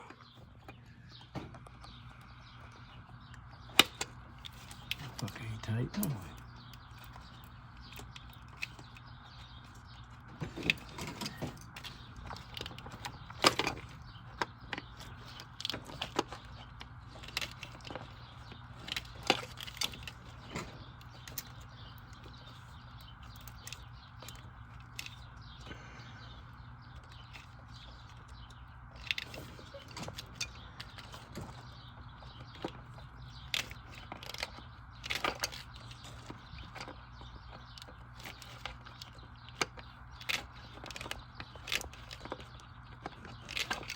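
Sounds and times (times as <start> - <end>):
steady low hum: 0.0 - 43.9
tools clicking and knocking on engine parts: 0.0 - 43.9.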